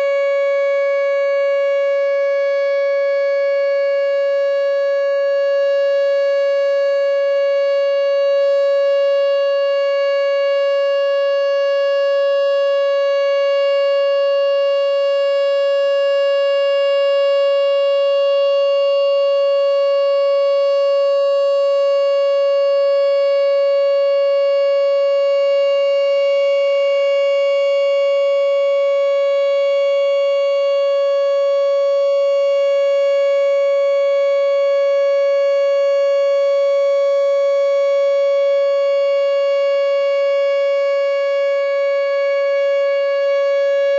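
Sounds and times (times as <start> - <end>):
warning siren steady tone: 0.0 - 43.9.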